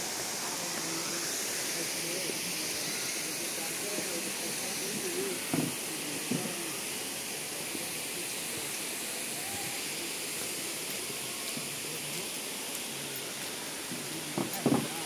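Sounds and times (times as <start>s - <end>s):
faint distant voices: 0.0s - 15.0s
waterfall hissing: 0.0s - 15.0s.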